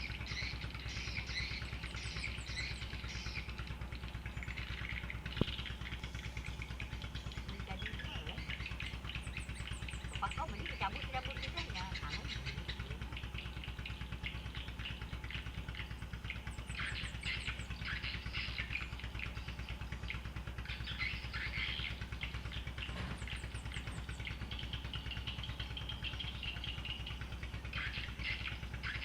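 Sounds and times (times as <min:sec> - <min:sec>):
birds chirping and trilling: 0:00.0 - 0:29.0
small engine idling: 0:00.0 - 0:29.0.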